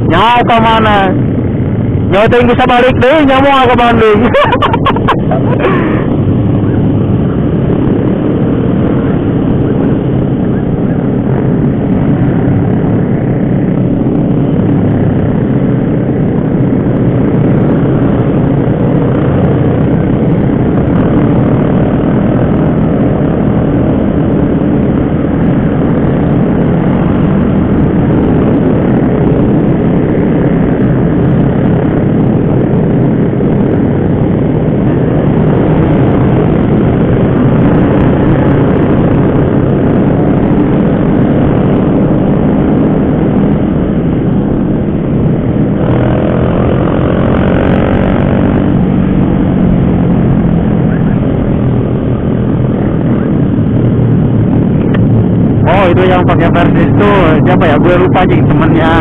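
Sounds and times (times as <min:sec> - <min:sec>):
motorcycle engine running: 0:00.0 - 0:59.0
wind rush over microphone: 0:00.0 - 0:59.0.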